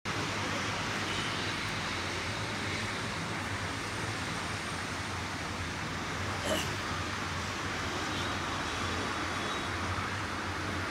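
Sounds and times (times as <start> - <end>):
diesel locomotive engine drone: 0.1 - 10.9
rushing background noise: 0.1 - 10.9.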